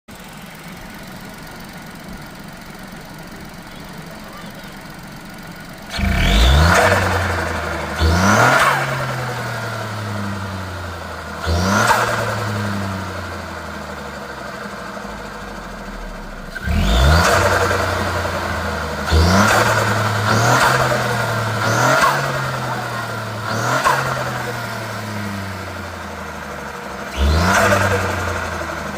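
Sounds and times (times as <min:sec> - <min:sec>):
car engine revving: 0:00.1 - 0:28.9.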